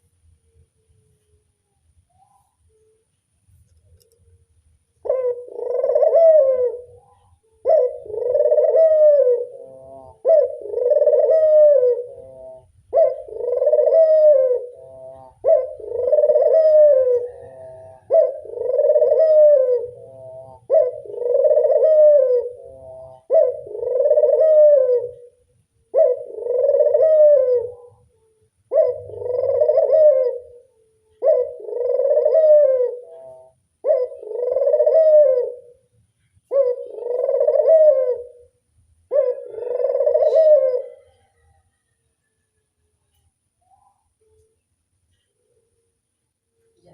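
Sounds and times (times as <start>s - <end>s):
dove cooing: 5.0s - 42.6s.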